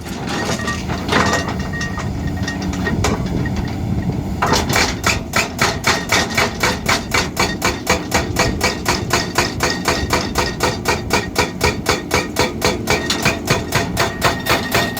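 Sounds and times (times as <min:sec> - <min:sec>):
rapid hammering blows: 0:02.3 - 0:14.9.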